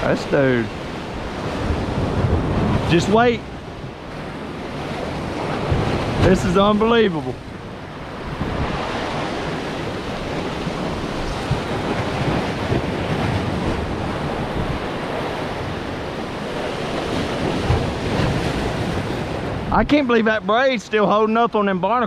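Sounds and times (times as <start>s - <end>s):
waves breaking against rocks: 0.0s - 21.4s.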